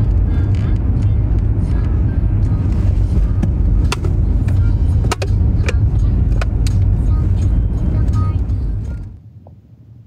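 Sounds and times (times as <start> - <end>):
car interior rumble: 0.0 - 10.0.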